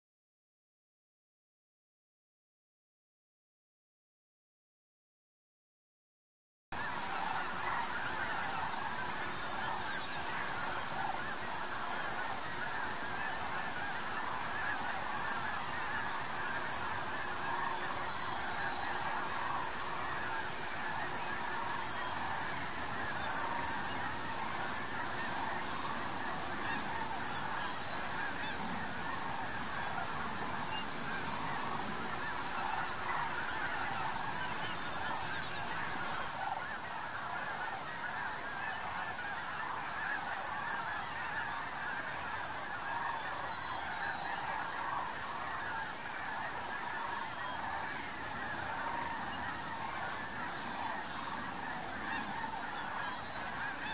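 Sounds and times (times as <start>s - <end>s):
geese honking: 6.8s - 53.9s.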